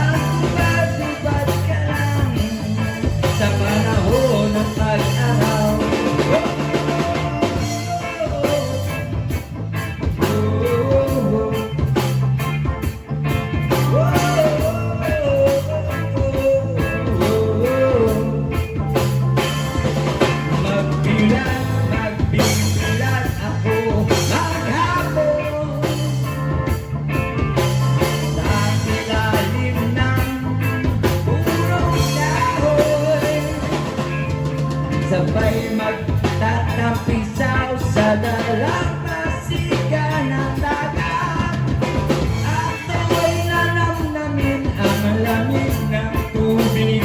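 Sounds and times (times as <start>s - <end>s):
instrumental rock band playing: 0.0s - 47.0s.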